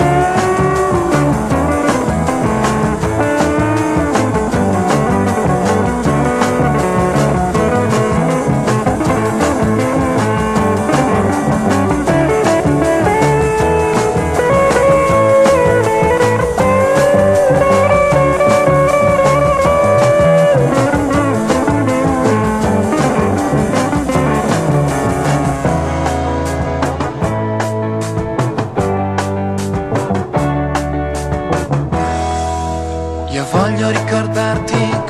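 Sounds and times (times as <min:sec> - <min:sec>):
held melody lines: 0:00.0 - 0:35.0
steady drum beat: 0:00.0 - 0:35.0.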